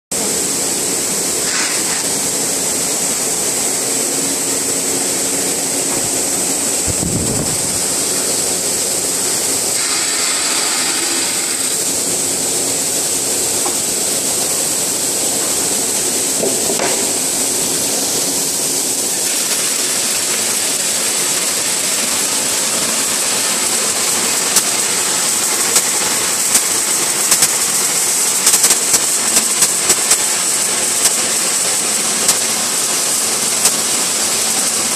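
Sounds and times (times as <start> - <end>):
high-pitched whine: 0.2 - 34.9
machine hiss: 0.2 - 34.9.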